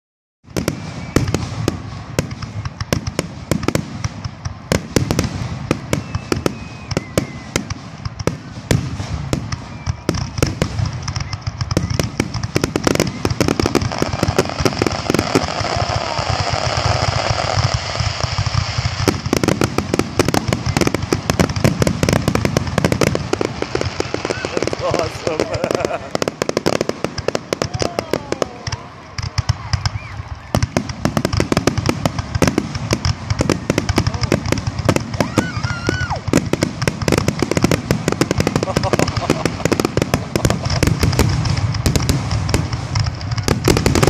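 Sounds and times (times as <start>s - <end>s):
continuous fireworks rumble: 0.4s - 44.0s
fireworks shells bursting: 0.5s - 44.0s.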